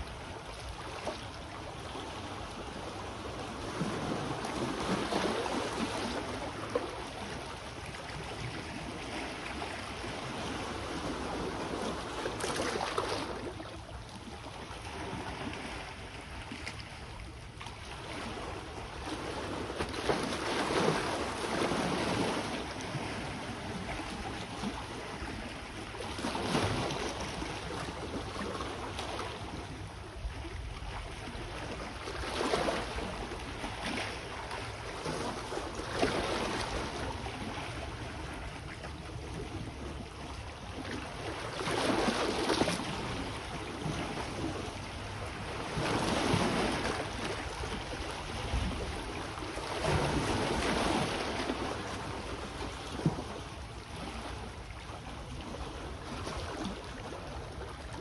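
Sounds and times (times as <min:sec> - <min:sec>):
small waves washing ashore: 0:00.0 - 0:58.0.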